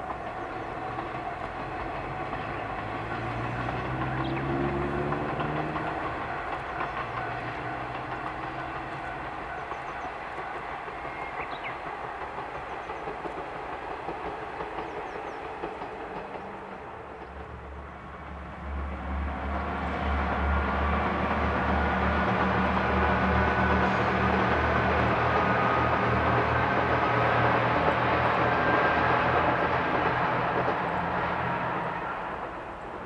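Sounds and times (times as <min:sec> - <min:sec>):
diesel railcar rumble: 0:00.0 - 0:33.0.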